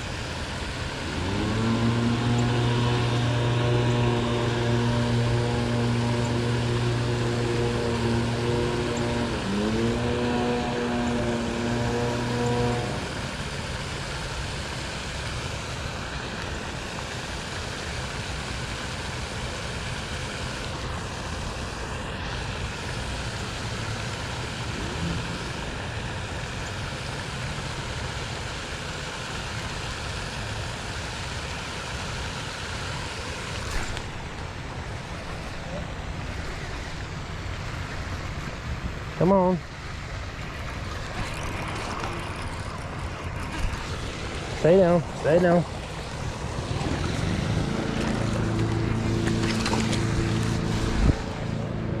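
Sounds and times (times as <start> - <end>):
engine droning: 0.0 - 52.0
steady outdoor hiss: 0.0 - 52.0.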